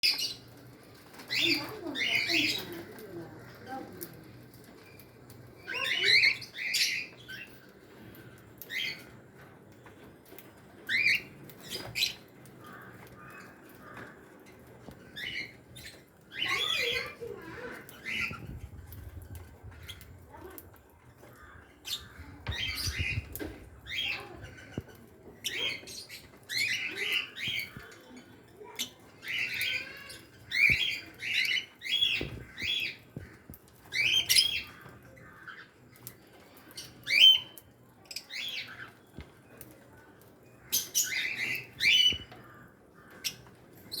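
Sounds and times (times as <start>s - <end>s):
lovebirds squawking and chirping: 0.0s - 39.8s, 40.4s - 44.0s.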